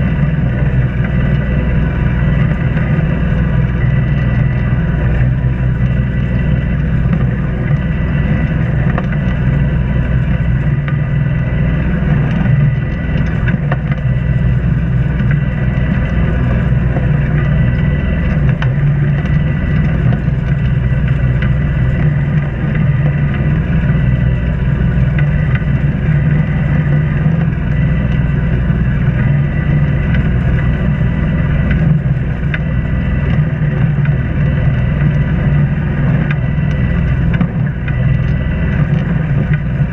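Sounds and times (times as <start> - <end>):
boat engine droning: 0.0 - 39.9
faint steady whine: 0.0 - 39.9.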